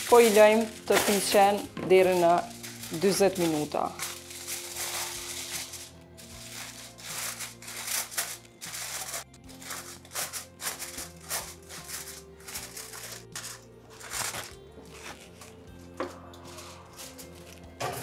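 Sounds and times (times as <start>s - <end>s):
aluminium foil crinkling: 0.0s - 15.7s, 16.4s - 18.0s
background music: 0.0s - 18.0s.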